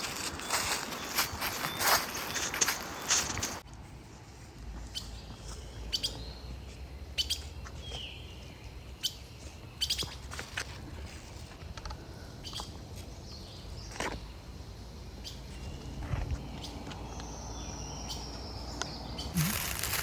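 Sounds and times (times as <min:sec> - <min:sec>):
birds chirping: 0:00.0 - 0:03.6, 0:04.7 - 0:20.0.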